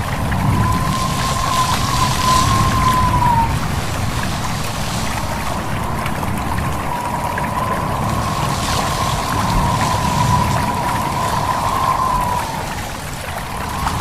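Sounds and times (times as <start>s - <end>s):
stream babbling: 0.0s - 14.0s
wind in leaves: 0.0s - 14.0s
thin wavering whistle: 0.1s - 14.0s.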